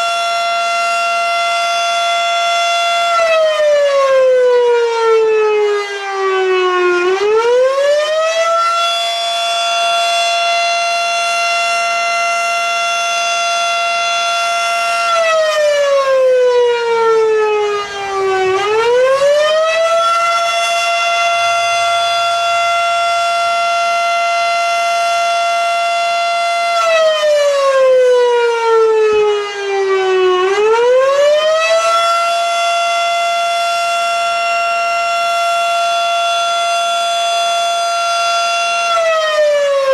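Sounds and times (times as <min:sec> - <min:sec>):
mechanical siren wailing: 0:00.0 - 0:39.9.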